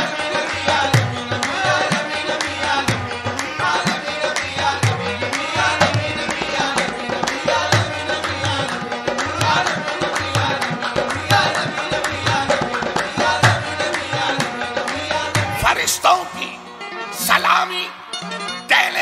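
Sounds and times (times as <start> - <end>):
harmonium chords: 0.0 - 19.0
tabla playing fast rhythm: 0.0 - 19.0.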